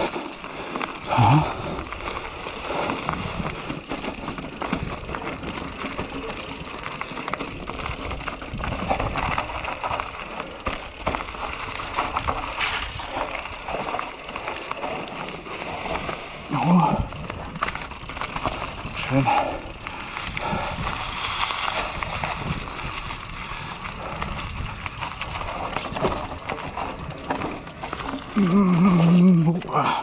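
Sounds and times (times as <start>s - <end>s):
tyres crunching over stones and leaves: 0.0s - 29.8s
bike knocking and rattling: 0.0s - 30.0s.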